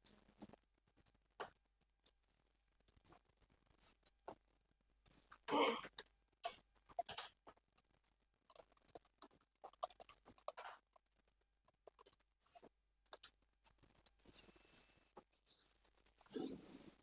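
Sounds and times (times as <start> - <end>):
faint clicks and taps: 0.0 - 16.4.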